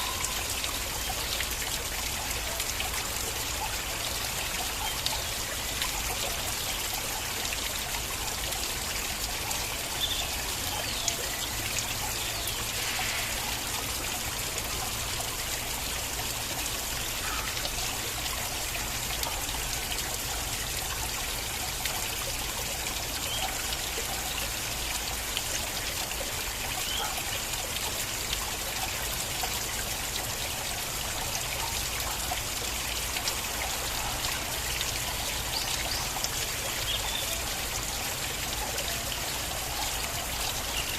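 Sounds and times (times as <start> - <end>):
stream water flowing: 0.0 - 40.9
water splashes and drips: 0.0 - 40.9.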